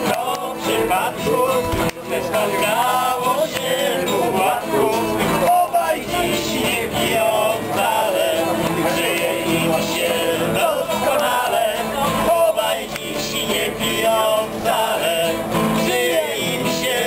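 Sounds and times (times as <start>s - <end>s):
acoustic guitars strumming: 0.0s - 17.0s
group singing: 0.0s - 17.0s.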